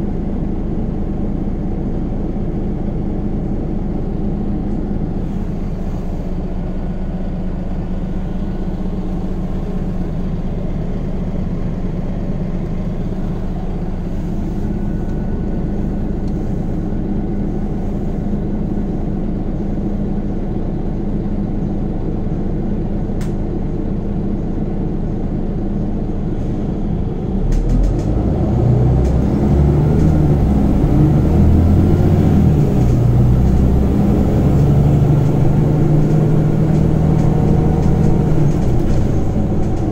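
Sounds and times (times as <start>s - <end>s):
bus engine running: 0.0s - 39.9s
road noise: 0.0s - 39.9s.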